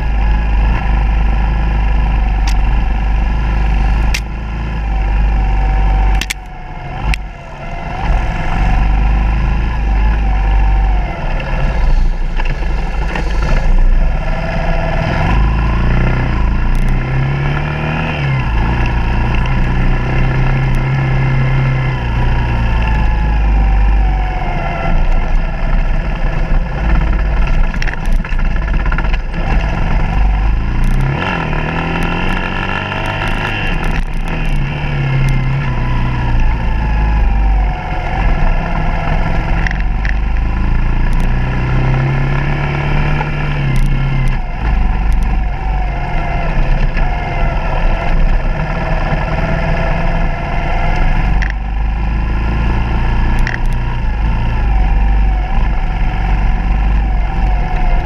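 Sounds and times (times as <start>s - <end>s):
heavy low rumble: 0.0s - 58.0s
motorcycle engine revving: 0.0s - 58.0s.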